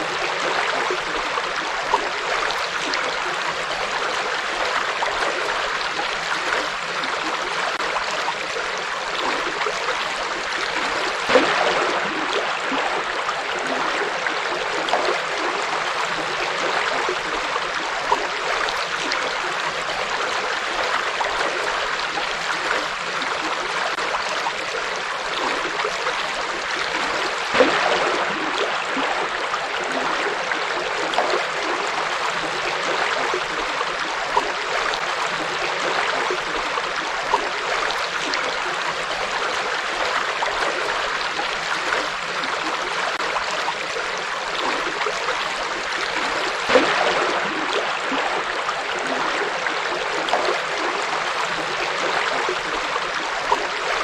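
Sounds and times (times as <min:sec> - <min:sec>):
river flowing: 0:00.0 - 0:54.0
water splashes: 0:00.0 - 0:54.0.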